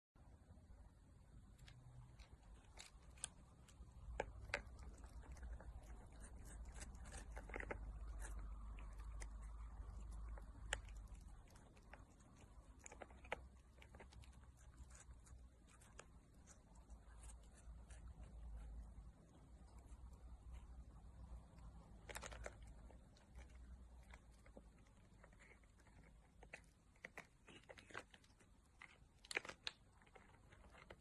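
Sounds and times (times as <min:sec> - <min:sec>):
faint clicks and crunches: 0:01.3 - 0:31.0.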